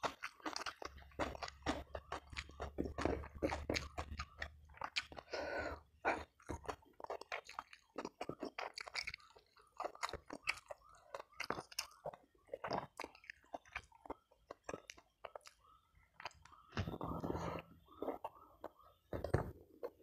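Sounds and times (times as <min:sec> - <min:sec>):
crunching bites of crisp food: 0:00.0 - 0:05.4, 0:06.0 - 0:17.2
chewing with wet mouth smacks: 0:00.0 - 0:17.2.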